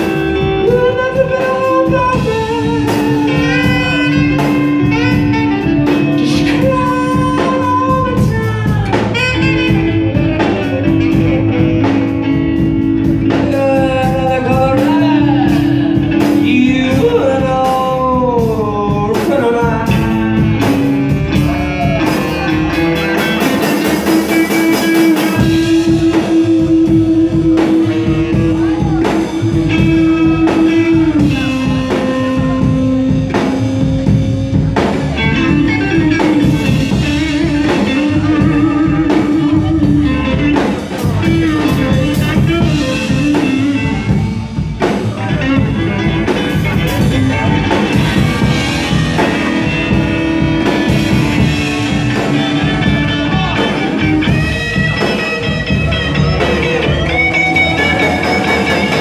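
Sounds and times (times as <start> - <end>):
drum kit: 0.0 - 59.0
electric guitar lead lines: 0.0 - 59.0
upright double bass: 0.0 - 59.0.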